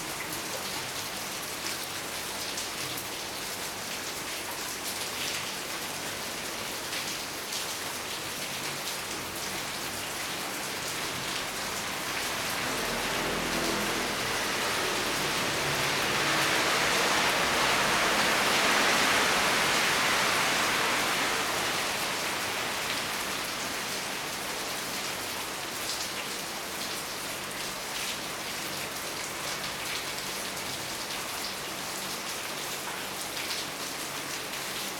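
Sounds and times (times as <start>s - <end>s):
raindrops hitting a surface: 0.0s - 34.9s
steady rain falling: 0.0s - 34.9s.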